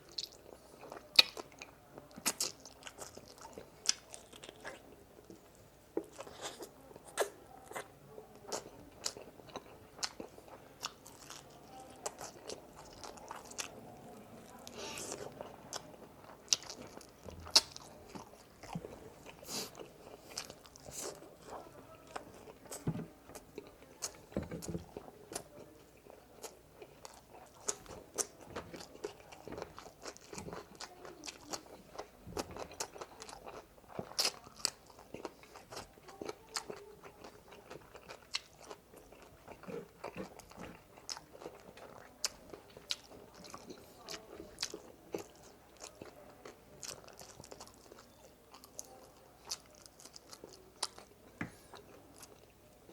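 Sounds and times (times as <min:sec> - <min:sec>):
close chewing and crunching: 0:00.0 - 0:52.9.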